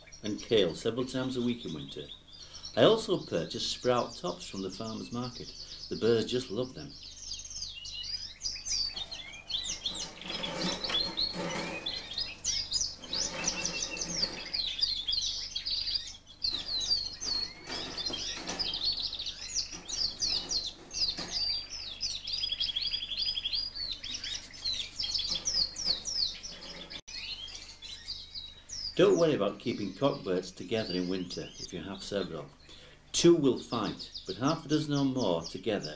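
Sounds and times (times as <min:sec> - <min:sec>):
canaries chirping and singing: 0:00.0 - 0:35.9.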